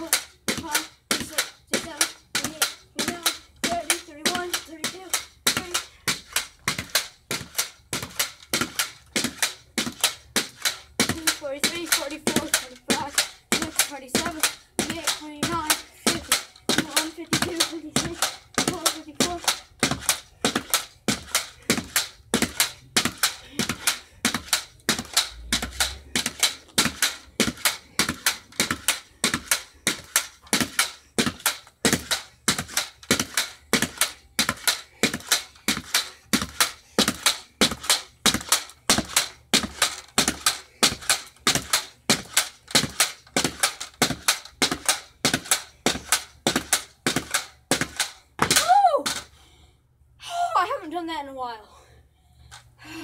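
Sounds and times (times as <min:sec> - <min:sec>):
pogo stick bouncing: 0:00.0 - 0:49.3.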